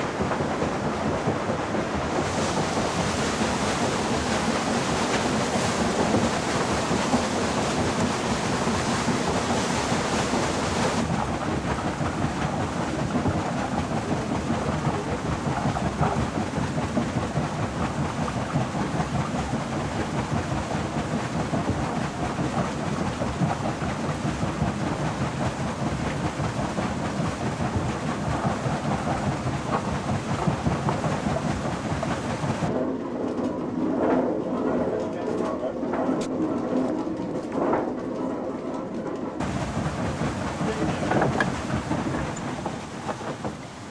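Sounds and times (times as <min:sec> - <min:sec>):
water wheel with pouring water: 0:00.0 - 0:32.8, 0:39.4 - 0:43.9.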